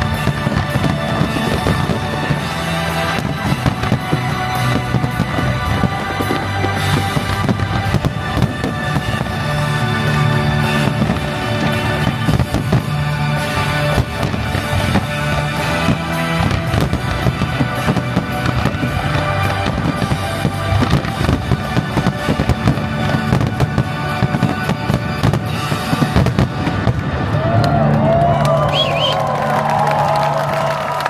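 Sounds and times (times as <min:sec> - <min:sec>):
fireworks bangs and crackles: 0:00.0 - 0:31.0
music soundtrack: 0:00.0 - 0:31.0.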